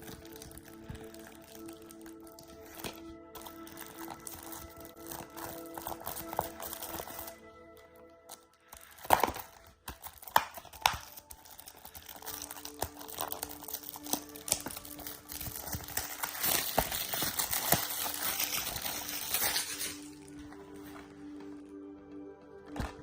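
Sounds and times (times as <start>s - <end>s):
faint background music: 0.0s - 23.0s
plastic wrap crinkling and tearing: 0.0s - 23.0s.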